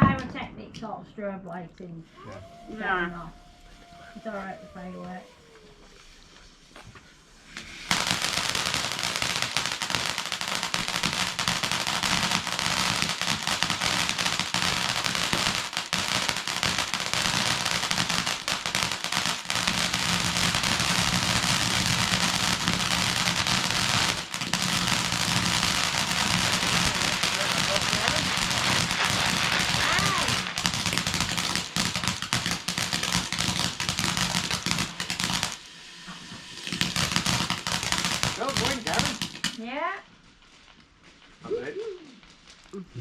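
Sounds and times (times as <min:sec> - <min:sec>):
firework crackling: 0:02.0 - 0:42.8.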